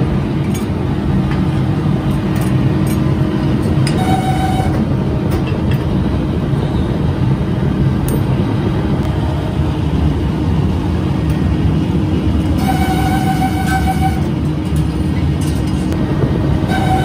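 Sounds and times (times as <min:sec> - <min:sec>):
factory machinery din: 0:00.0 - 0:17.0.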